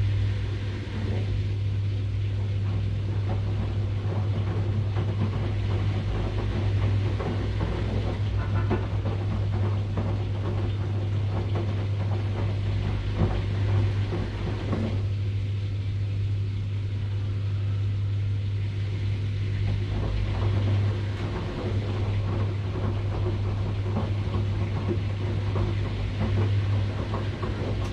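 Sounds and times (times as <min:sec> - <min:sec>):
washing machine churning: 0:00.0 - 0:27.9
washing machine motor hum: 0:00.0 - 0:27.9.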